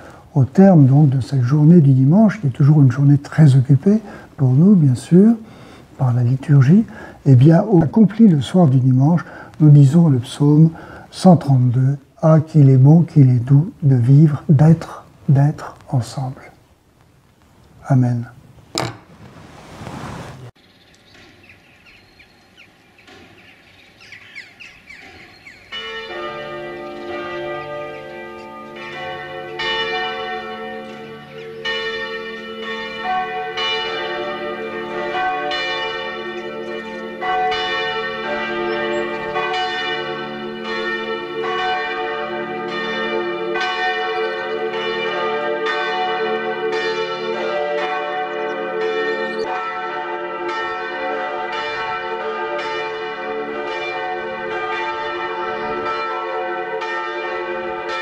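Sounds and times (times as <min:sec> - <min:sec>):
church bells pealing: 0:00.0 - 0:16.6, 0:24.0 - 0:58.0
faint outdoor sound: 0:00.0 - 0:58.0.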